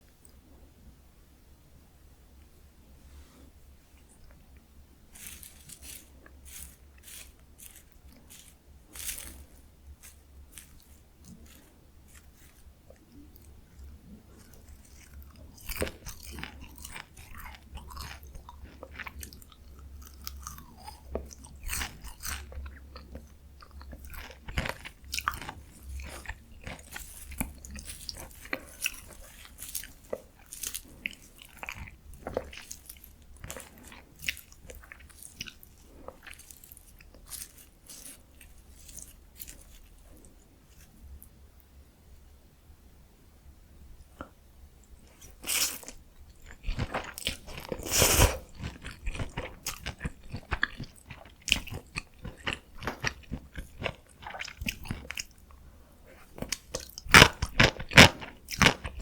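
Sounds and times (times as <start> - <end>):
wet chewing: 5.1 - 41.2, 44.2 - 59.0.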